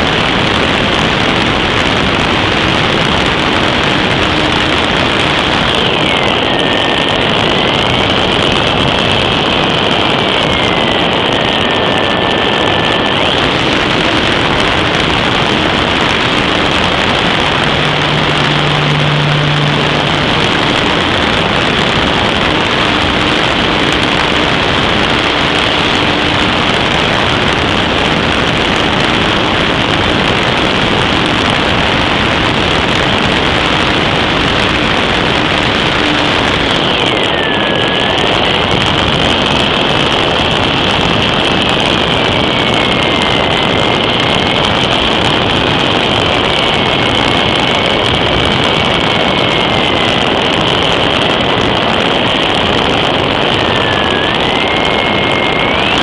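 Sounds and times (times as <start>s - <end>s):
air rushing: 0.0s - 56.0s
second motor whine wavering: 0.0s - 56.0s
small motor whine: 0.0s - 56.0s.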